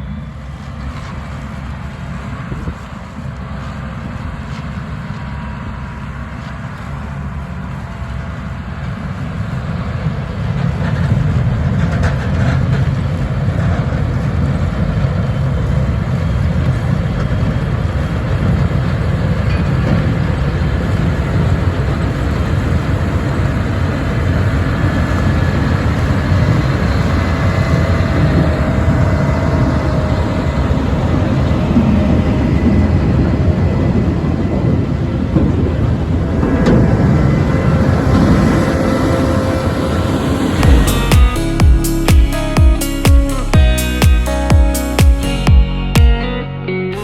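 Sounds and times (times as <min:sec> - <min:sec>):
diesel machinery rumbling: 0:00.0 - 0:47.0.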